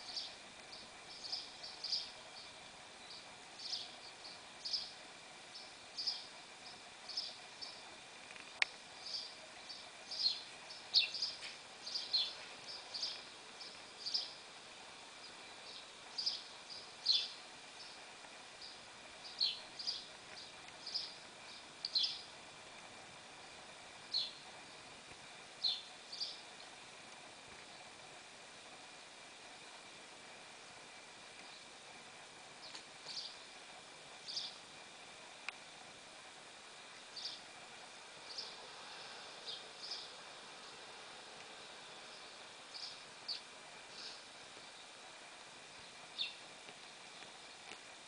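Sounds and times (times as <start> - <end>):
faint steady hiss: 0.0 - 48.0
recorded birds chirping: 0.0 - 48.0.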